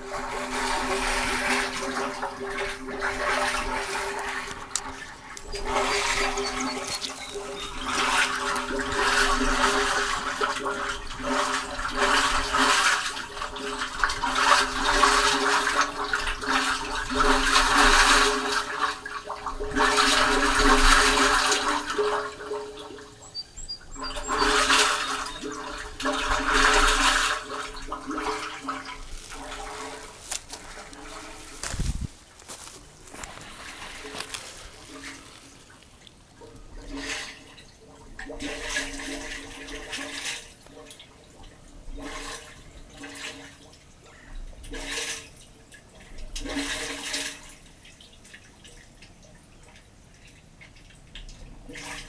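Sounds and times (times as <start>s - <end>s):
sewage rushing and gurgling: 0.0s - 43.5s.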